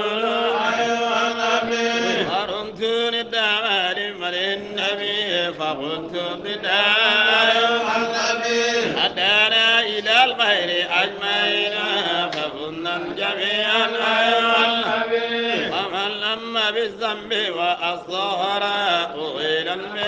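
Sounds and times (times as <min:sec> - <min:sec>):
man chanting melodically: 0:00.0 - 0:20.0.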